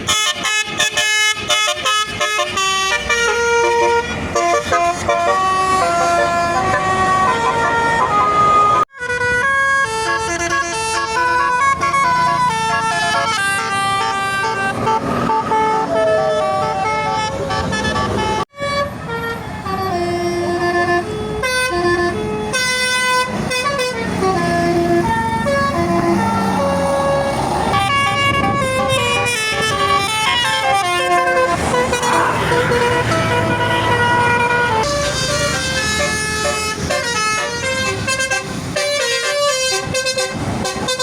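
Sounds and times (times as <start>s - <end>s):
bus engines rumbling: 0.0s - 41.0s
musical air horns playing melody: 0.0s - 41.0s.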